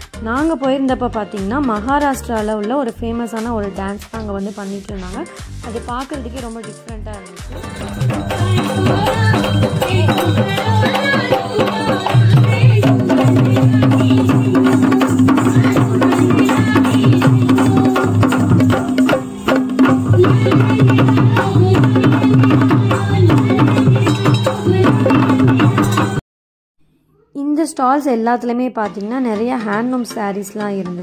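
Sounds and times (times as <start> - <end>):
steady drum rhythm: 0.0 - 26.2
woman singing into microphone: 0.3 - 19.2, 19.9 - 26.1.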